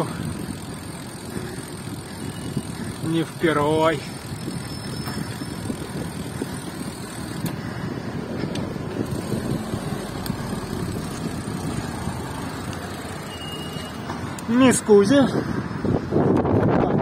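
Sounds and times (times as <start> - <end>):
low rumble of vehicles: 0.0 - 17.0
wind: 0.0 - 17.0.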